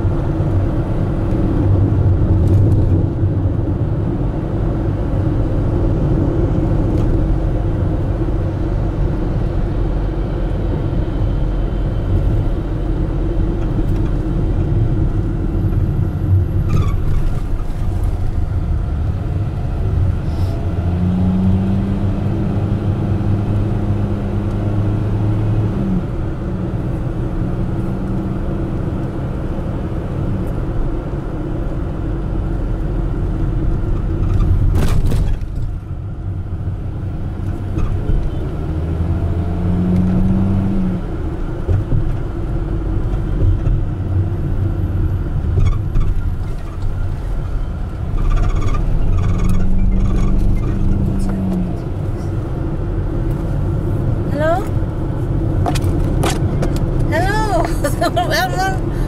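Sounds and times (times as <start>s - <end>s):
engine and tyre rumble in car: 0.0s - 59.0s.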